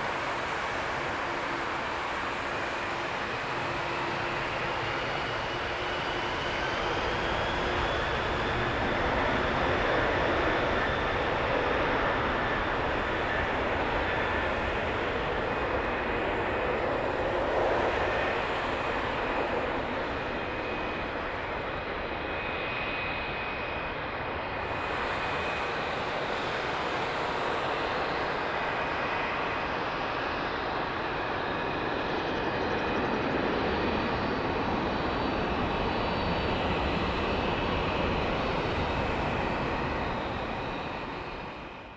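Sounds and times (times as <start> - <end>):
jet engines roaring at takeoff: 0.0 - 41.9.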